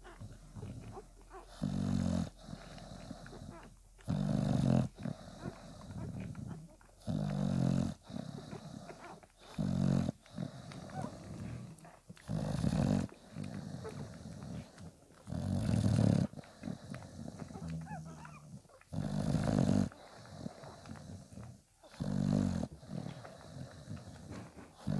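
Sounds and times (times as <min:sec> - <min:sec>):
dog breathing noisily: 0:00.0 - 0:24.9
puppies snuffling and suckling: 0:00.0 - 0:24.9.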